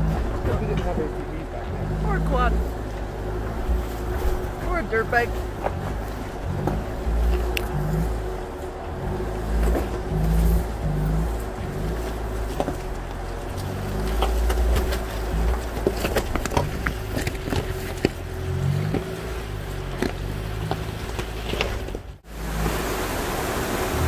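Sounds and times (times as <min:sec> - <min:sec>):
tyres clicking on loose rock: 0:00.0 - 0:22.2
vehicle engine rumble: 0:00.0 - 0:24.0.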